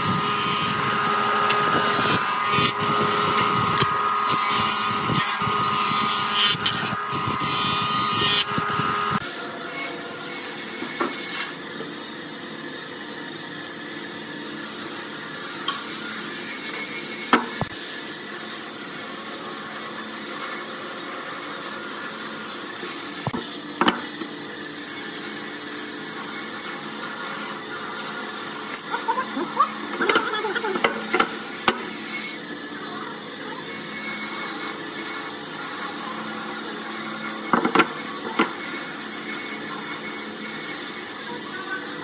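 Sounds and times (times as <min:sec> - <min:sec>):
workshop background noise: 0:00.0 - 0:42.0.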